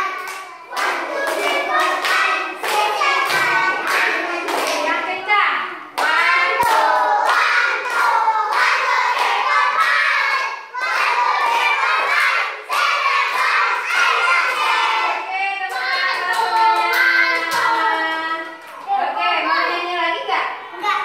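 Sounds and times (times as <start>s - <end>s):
children clapping hands: 0.0s - 4.9s, 6.0s - 18.9s
young children singing: 0.0s - 18.6s.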